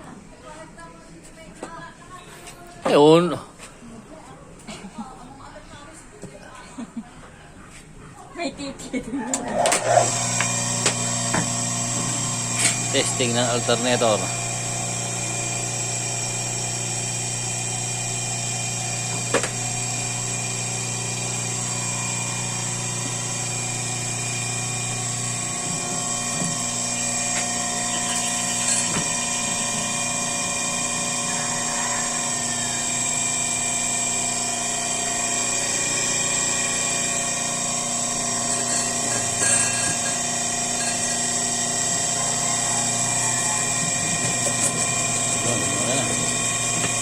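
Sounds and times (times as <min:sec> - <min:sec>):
alternator whine: 0:09.3 - 0:47.0.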